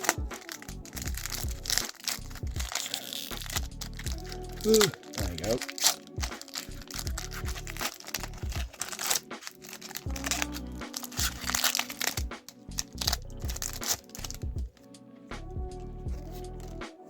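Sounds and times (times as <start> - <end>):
foil wrapper crinkling and tearing: 0.0 - 14.9, 16.2 - 16.9
background music: 0.0 - 17.0.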